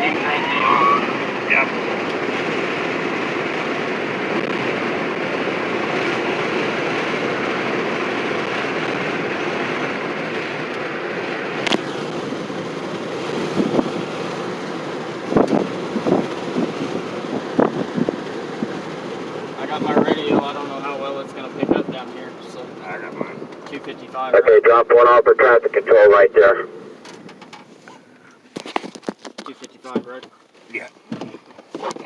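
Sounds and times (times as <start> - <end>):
road and engine noise: 0.0 - 32.0.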